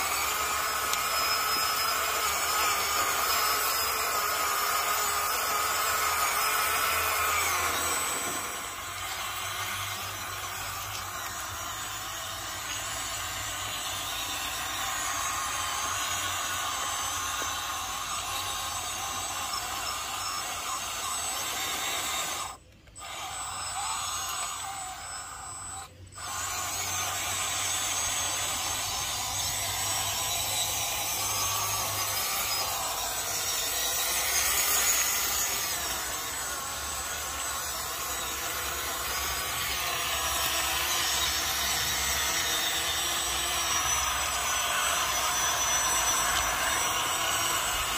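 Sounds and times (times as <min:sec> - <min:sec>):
electric motor and gearbox whining: 0:00.0 - 0:47.9.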